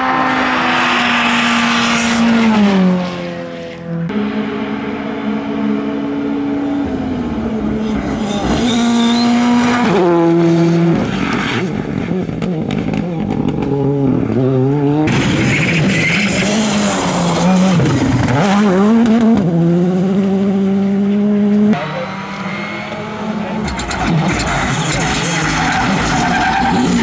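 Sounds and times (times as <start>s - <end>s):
rally car engines revving: 0.0s - 27.0s.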